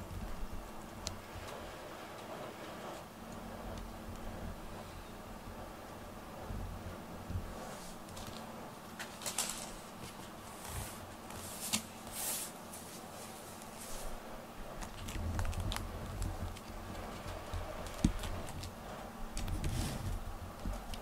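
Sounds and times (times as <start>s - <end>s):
cats rustling: 0.0s - 21.0s.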